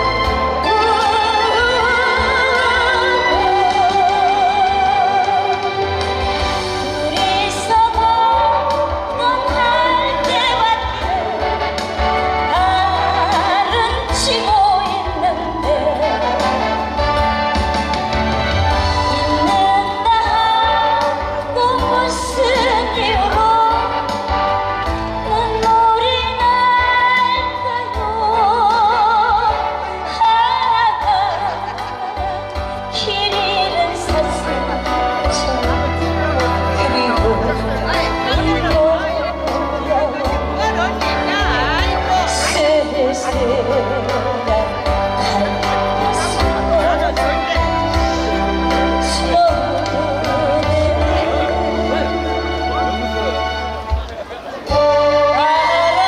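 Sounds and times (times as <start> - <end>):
woman singing a ballad: 0.0 - 53.6, 54.6 - 56.0
amplified backing music: 0.0 - 56.0.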